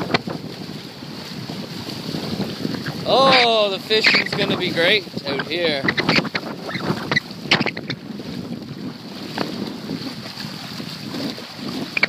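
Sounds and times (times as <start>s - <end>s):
waves lapping on rocks: 0.0s - 12.0s
wind on microphone: 0.0s - 12.0s.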